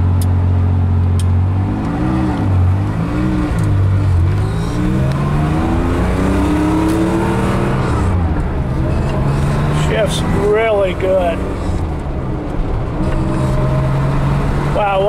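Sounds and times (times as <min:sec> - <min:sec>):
car engine revving while driving: 0:00.0 - 0:15.0.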